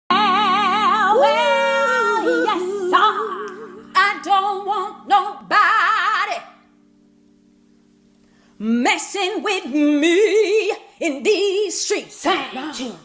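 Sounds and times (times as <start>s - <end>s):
woman singing with vibrato: 0.1s - 6.6s, 8.6s - 13.0s.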